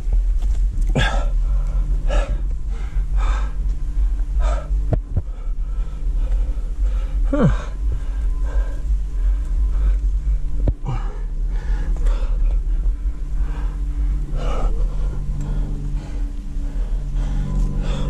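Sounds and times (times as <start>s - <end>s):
low rumble: 0.0s - 18.0s
heavy breathing: 0.9s - 18.0s.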